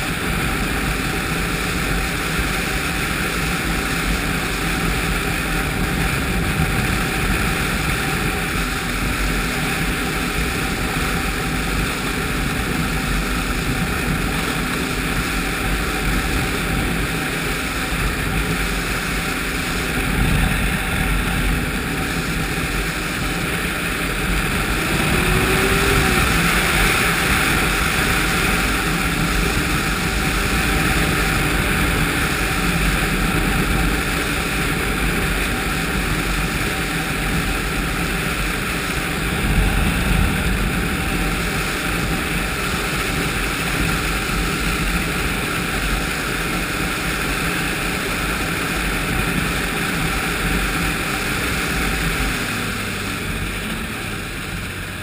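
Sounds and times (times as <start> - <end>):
snowmobile engine running: 0.0 - 55.0
wind rush: 0.0 - 55.0.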